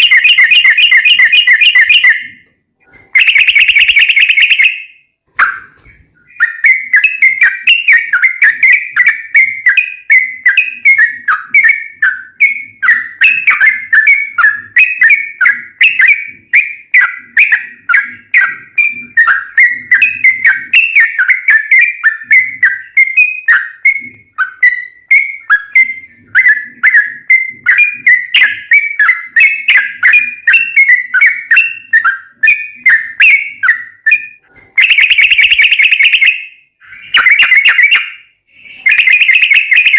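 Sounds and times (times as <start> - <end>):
bird singing chattering whistles: 0.0 - 2.4, 3.2 - 39.9.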